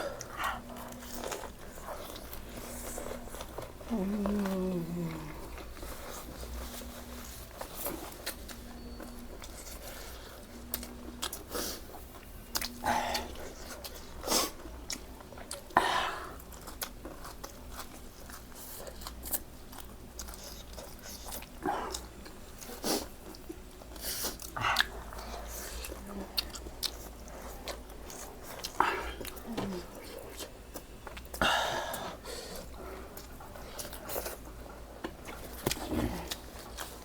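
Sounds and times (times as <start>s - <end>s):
crunchy chewing of food: 0.0s - 37.0s.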